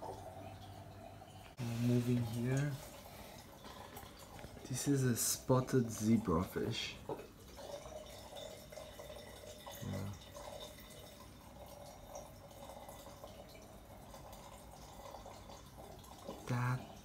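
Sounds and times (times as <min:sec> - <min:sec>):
water trickling and dripping: 0:00.0 - 0:17.0.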